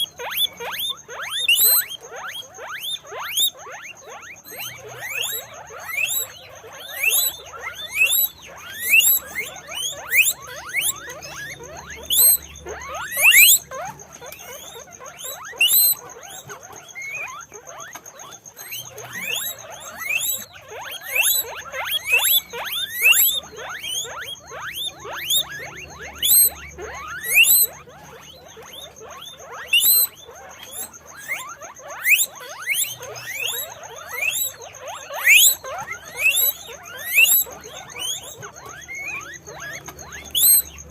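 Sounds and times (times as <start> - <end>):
guinea pig squeaking: 0.0 - 40.9.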